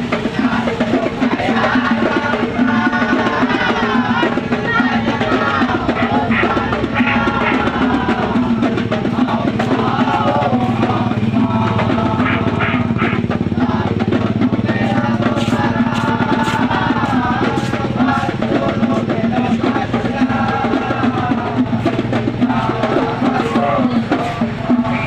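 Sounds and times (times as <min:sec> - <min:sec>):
music with drum beat: 0:00.0 - 0:25.0.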